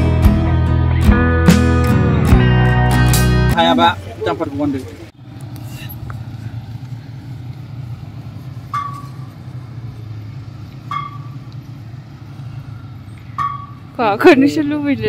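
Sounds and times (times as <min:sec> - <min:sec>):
vehicle motor rumbling: 0:00.0 - 0:15.0.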